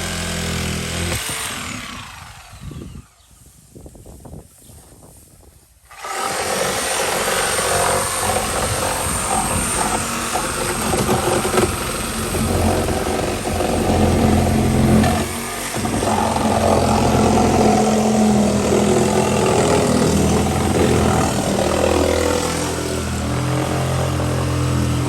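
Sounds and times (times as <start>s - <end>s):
loud motorised machine running: 0.0s - 3.2s, 5.9s - 25.0s.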